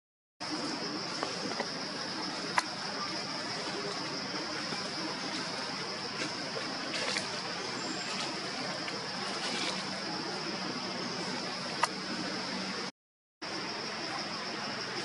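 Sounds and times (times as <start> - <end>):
constant hiss: 0.4 - 15.0
high-pitched insect drone: 0.4 - 15.0.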